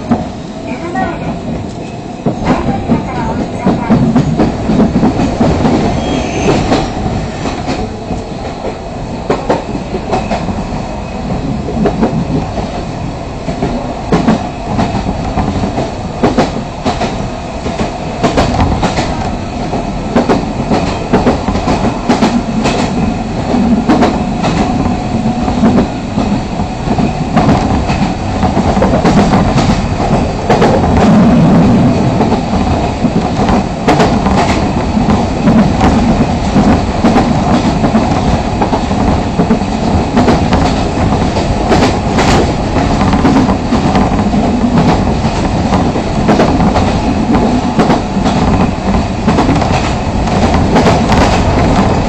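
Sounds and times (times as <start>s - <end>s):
train rumble from inside: 0.0s - 52.0s.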